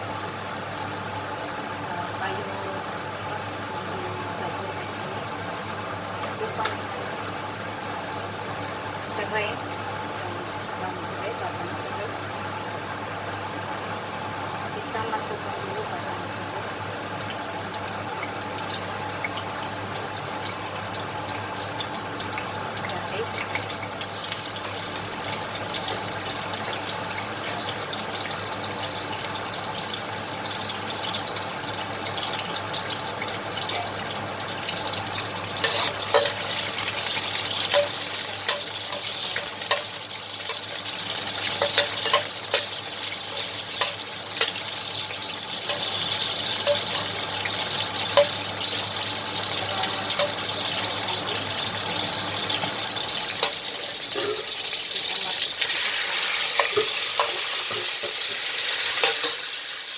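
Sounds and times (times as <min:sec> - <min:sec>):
oil sizzling in a wok: 0:00.0 - 0:59.9.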